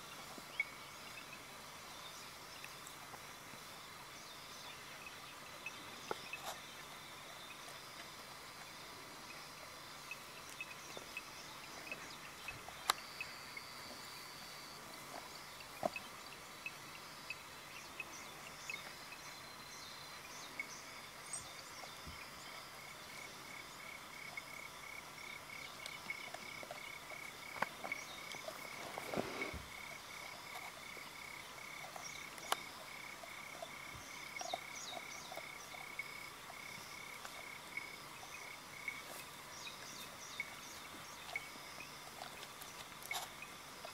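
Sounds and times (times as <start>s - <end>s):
frogs and insects chorus: 0.0s - 43.9s.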